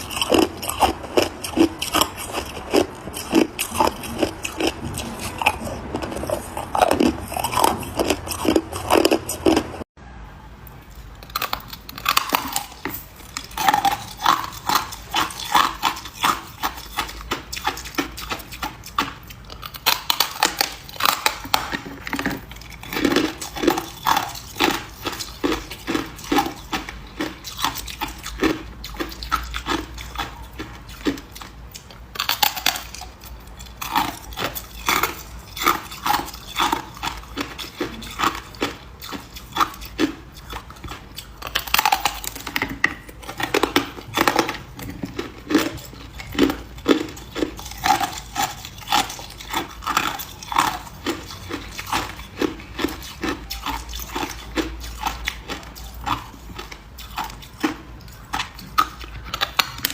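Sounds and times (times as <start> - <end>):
ice being chewed: 0.0 - 9.9, 10.9 - 59.9.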